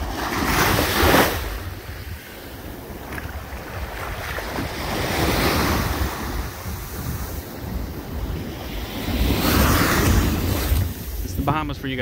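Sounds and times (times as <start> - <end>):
small waves breaking on beach: 0.0 - 11.6
wind rumbling on microphone: 0.0 - 12.0.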